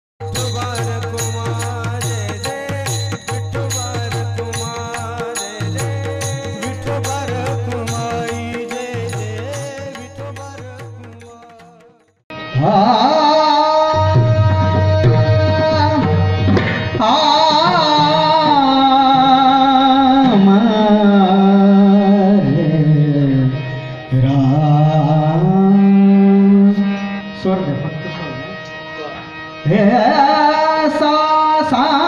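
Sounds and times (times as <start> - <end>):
instrumental accompaniment: 0.2 - 32.0
man singing devotional tune: 0.2 - 32.0.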